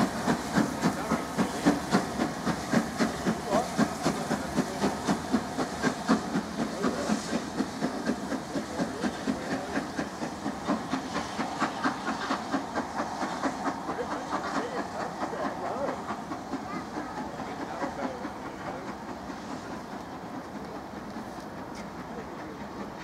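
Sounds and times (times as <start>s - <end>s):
hissing steam: 0.0s - 23.0s
steam locomotive exhaust beats: 0.0s - 23.0s.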